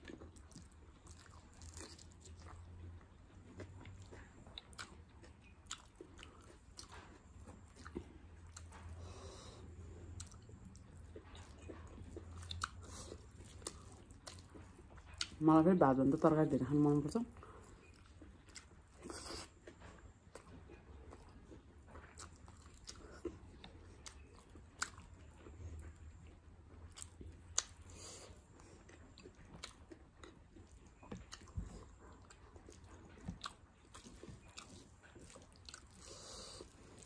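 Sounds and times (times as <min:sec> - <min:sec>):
person chewing food: 0:00.0 - 0:15.4, 0:16.2 - 0:37.0.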